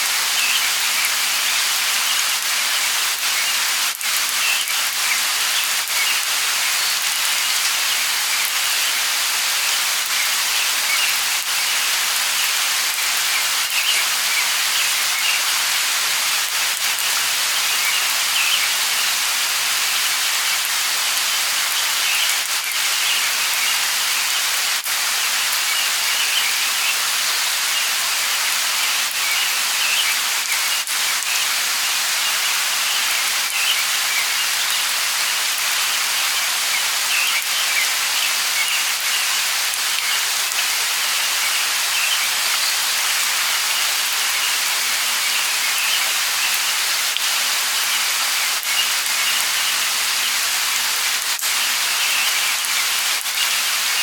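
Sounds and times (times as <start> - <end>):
light rain falling: 0.0 - 54.0
birds chirping: 0.1 - 24.6, 25.6 - 54.0.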